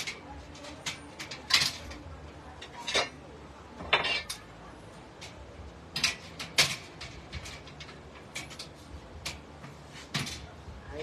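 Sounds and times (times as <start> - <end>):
metal shelving parts clinking: 0.0 - 3.2, 3.8 - 11.0.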